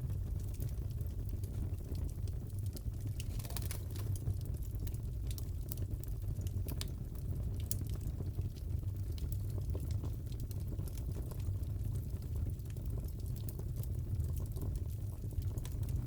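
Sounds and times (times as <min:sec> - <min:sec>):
burning wood rumble: 0:00.0 - 0:11.1, 0:11.7 - 0:16.0
fire crackling and popping: 0:00.0 - 0:16.0.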